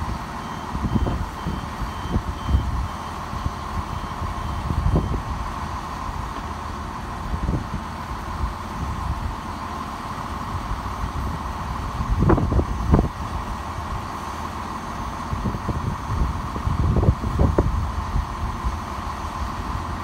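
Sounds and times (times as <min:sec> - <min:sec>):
constant whine: 0:00.0 - 0:20.0
diesel train idling hum: 0:00.0 - 0:20.0.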